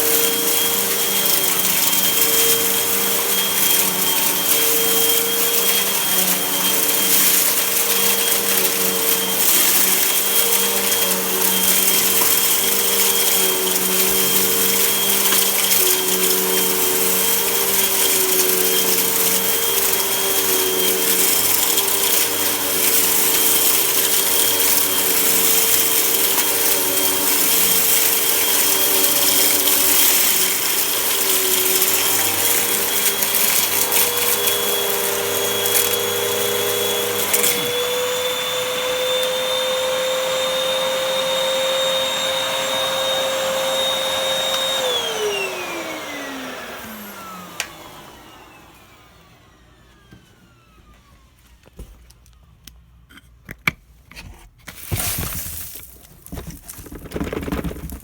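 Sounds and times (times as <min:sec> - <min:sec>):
vacuum cleaner running: 0:00.0 - 0:52.4, 0:54.7 - 0:58.0.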